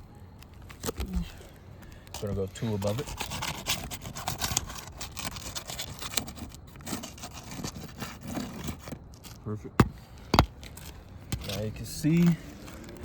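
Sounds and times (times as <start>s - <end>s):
metal tool scraping under shingles: 2.0s - 13.0s.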